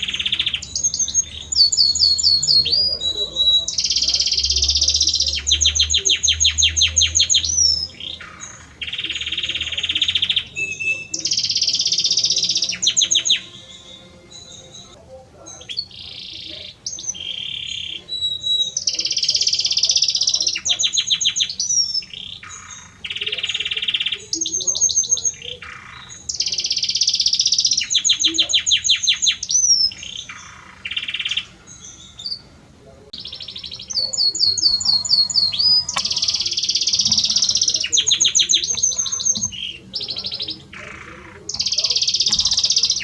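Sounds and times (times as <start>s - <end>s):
canary singing trills: 0.0s - 43.0s.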